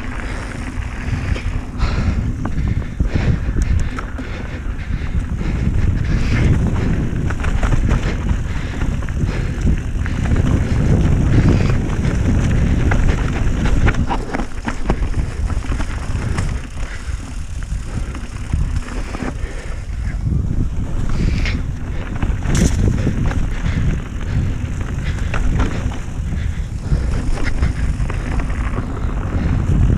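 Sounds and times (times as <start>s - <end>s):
bike clicks and rattles: 0.0s - 29.9s
tyres rumbling: 0.0s - 29.9s
wind buffeting microphone: 0.0s - 29.9s.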